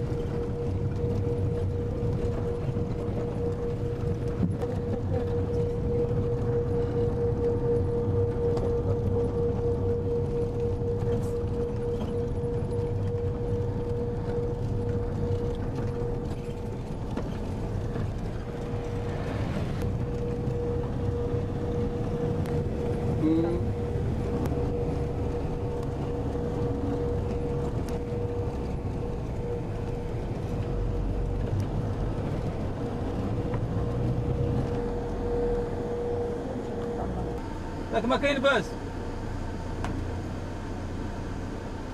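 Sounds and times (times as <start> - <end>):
constant high whine: 0.0 - 41.9
vehicle engine and road rumble: 0.0 - 41.9.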